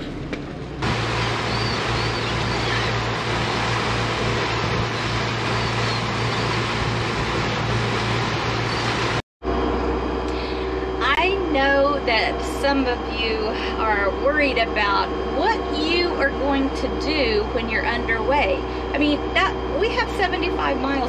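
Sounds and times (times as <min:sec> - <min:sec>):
boat engines humming: 0:00.0 - 0:21.0
churning wake and wind: 0:00.8 - 0:09.2, 0:11.2 - 0:21.0.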